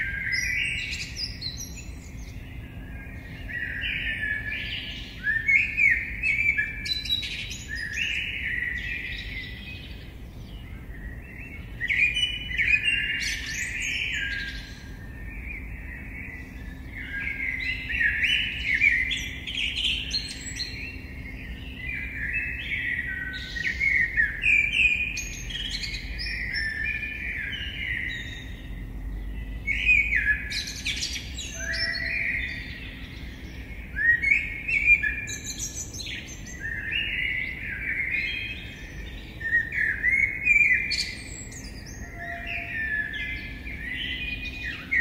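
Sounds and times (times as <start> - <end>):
birds chirping and trilling: 0.0 - 45.0.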